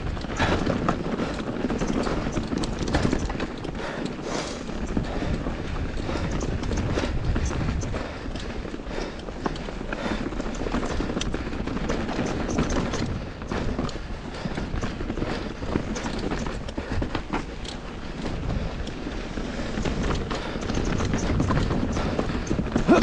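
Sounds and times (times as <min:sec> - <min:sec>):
bike clicking and rattling: 0:00.0 - 0:23.0
bike tires crunching over dirt: 0:00.0 - 0:23.0
wind rumble on camera: 0:00.0 - 0:23.0.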